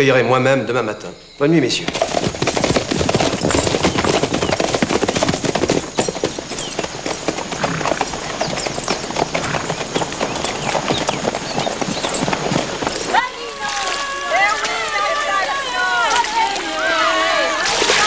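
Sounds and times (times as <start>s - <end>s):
horses' hooves clip-clopping: 1.8s - 18.0s.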